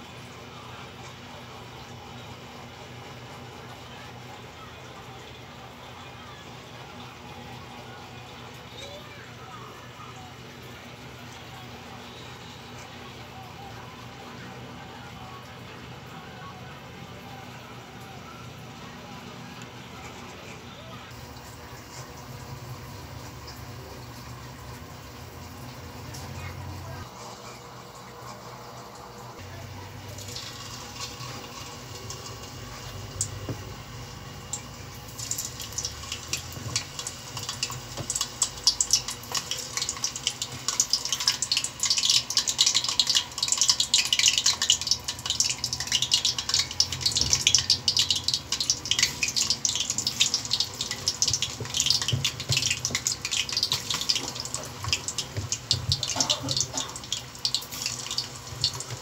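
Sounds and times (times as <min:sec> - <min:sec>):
food deep-frying in hot oil: 0:00.0 - 0:59.0.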